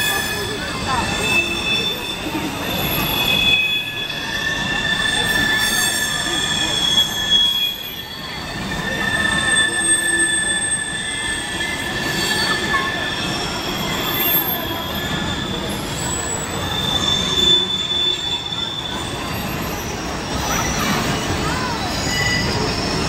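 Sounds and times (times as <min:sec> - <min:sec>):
freight train rumble: 0:00.0 - 0:23.0
train wheels squealing: 0:00.0 - 0:23.0.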